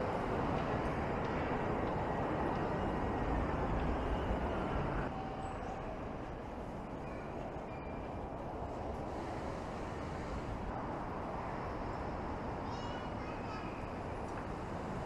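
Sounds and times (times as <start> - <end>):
traffic rumble and hiss: 0.0 - 15.0.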